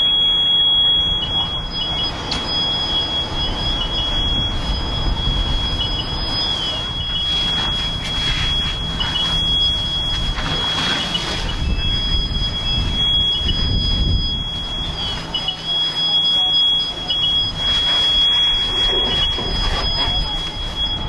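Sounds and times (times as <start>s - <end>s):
fire alarm tone: 0.0s - 21.0s
fire engines idling: 0.0s - 21.0s.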